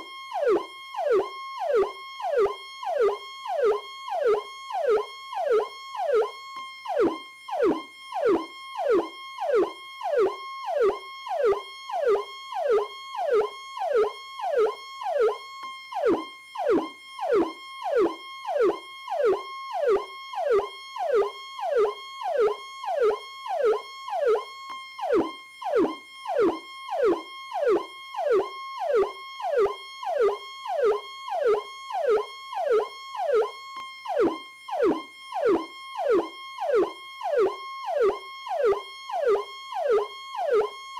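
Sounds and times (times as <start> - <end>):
electronic police siren: 0.0 - 40.9.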